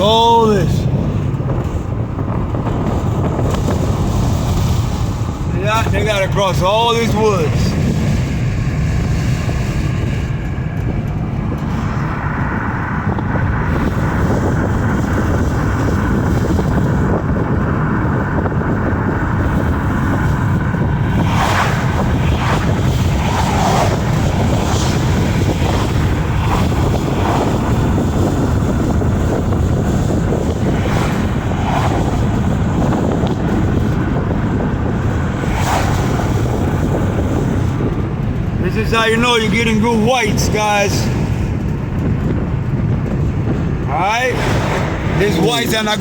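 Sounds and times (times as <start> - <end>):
road and wind noise in vehicle: 0.0 - 46.0.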